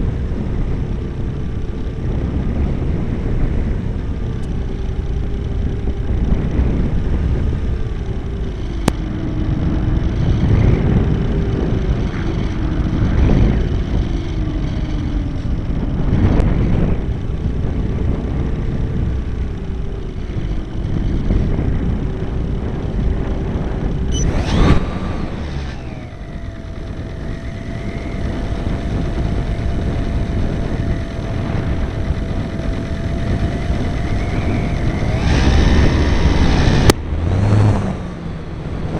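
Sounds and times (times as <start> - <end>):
model airplane motor and propeller: 0.0 - 38.9
wind rumble on microphone: 0.0 - 38.9.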